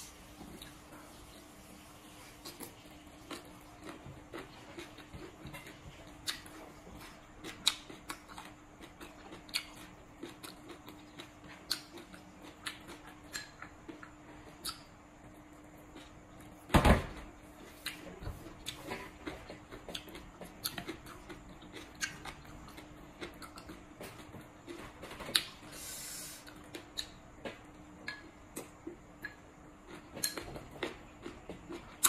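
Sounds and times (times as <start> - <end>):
faint steady hum: 0.0 - 32.0
crunching while chewing: 2.3 - 32.0.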